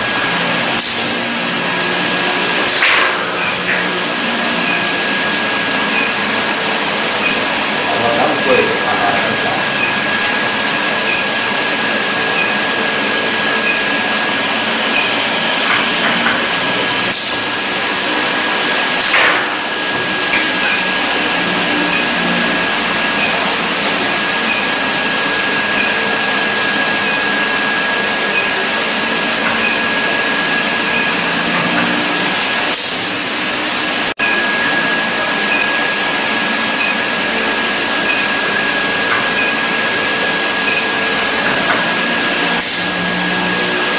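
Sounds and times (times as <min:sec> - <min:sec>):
high machine whine: 0:00.0 - 0:43.9
machine noise: 0:00.0 - 0:43.9.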